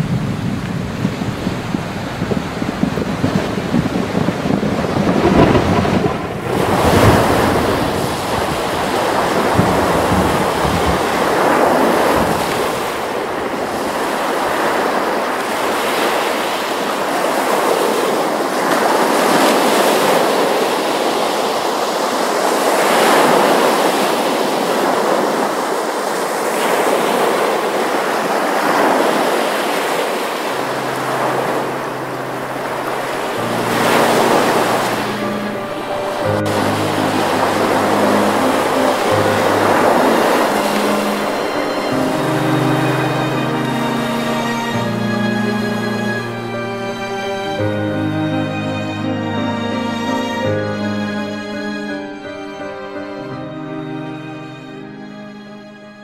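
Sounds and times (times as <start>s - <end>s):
wind buffeting microphone: 0.0s - 46.7s
surf breaking on shore: 0.0s - 50.9s.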